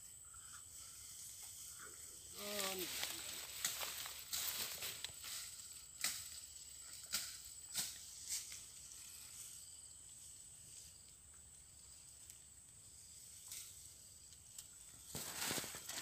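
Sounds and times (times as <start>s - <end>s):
rustling in grass: 0.0s - 11.2s, 12.8s - 16.0s
high insect drone: 0.0s - 16.0s.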